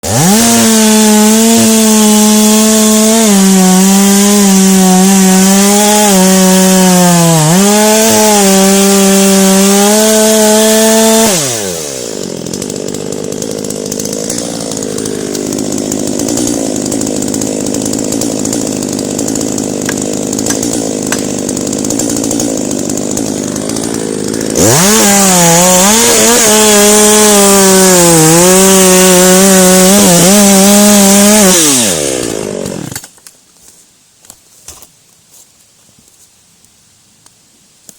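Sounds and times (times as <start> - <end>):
chainsaw cutting wood: 0.0 - 33.3.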